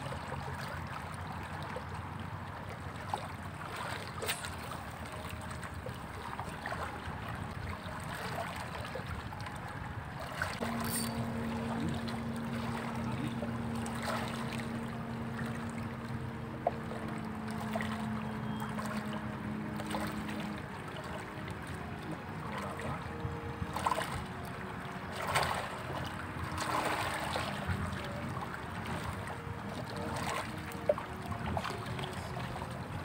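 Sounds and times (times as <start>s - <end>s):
faint hum: 0.0s - 33.0s
low motor drone: 3.5s - 33.0s.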